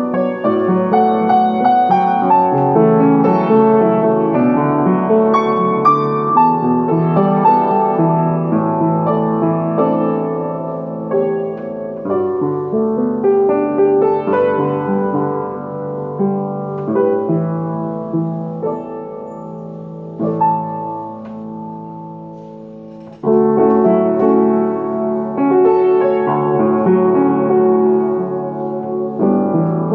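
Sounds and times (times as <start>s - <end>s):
solo piano ballad: 0.0s - 29.9s.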